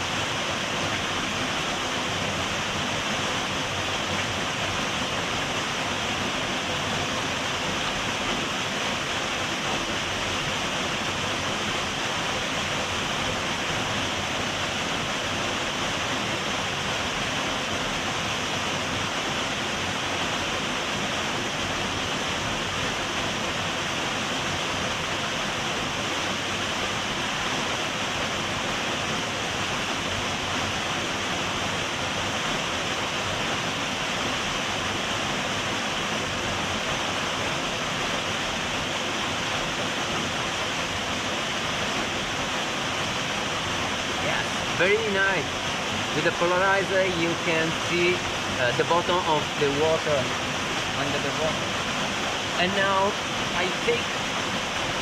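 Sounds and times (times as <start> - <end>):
small waterfall rushing: 0.0 - 55.0.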